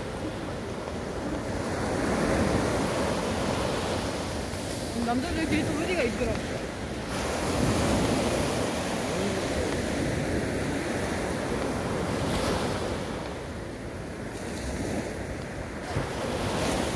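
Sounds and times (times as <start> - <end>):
sea waves breaking: 0.0 - 16.9
wind on microphone: 0.0 - 16.9.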